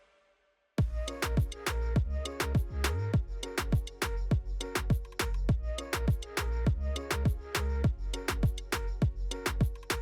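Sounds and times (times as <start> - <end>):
deep kick drums: 0.8 - 10.0
music with steady beat: 0.8 - 10.0.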